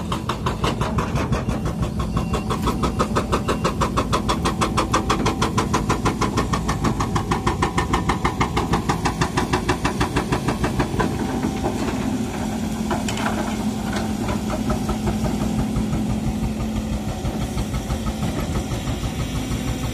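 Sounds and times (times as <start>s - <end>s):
diesel excavator engine running: 0.0s - 19.9s.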